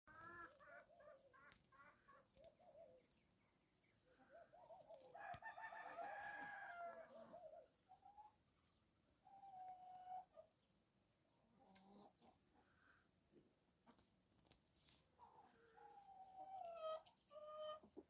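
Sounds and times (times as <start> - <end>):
chickens clucking: 0.1 - 14.2, 14.9 - 18.0.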